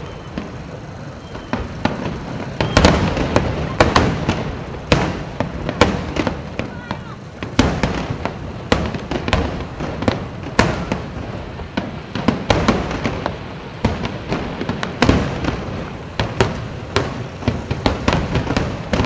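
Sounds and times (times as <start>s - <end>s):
fireworks bangs and pops: 0.0s - 19.0s.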